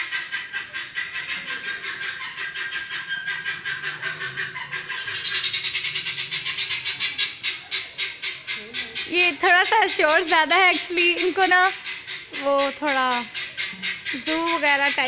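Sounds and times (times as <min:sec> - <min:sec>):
animals and birds chattering: 0:00.0 - 0:15.0.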